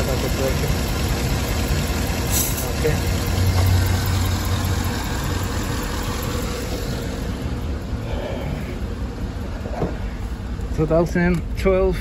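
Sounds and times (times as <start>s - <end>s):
misfiring engine idling: 0.0s - 12.0s.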